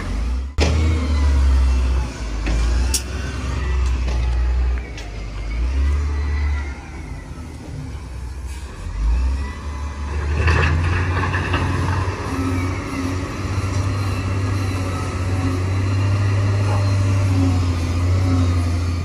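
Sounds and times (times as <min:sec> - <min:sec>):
heavy diesel engine revving: 0:00.0 - 0:19.0.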